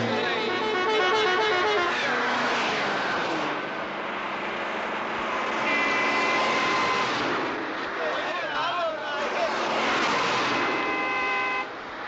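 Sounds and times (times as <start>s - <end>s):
highway traffic roar: 0.0s - 12.0s.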